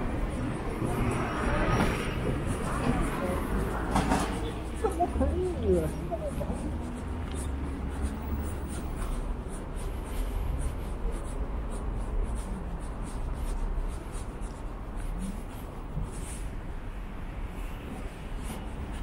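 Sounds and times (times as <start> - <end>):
footsteps on paved sidewalk: 0.0 - 19.0
low street rumble: 0.0 - 19.0.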